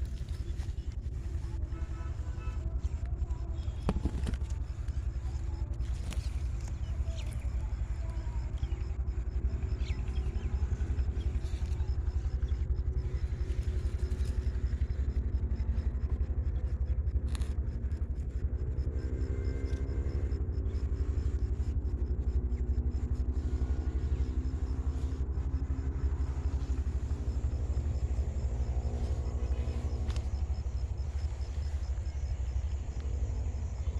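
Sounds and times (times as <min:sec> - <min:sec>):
vehicle engine rumbling: 0:00.0 - 0:33.9.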